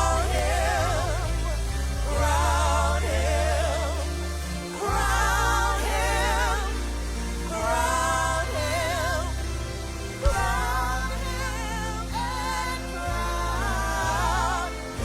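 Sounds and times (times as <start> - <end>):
low bass notes: 0.0 - 15.0
singers holding notes with vibrato: 0.0 - 15.0.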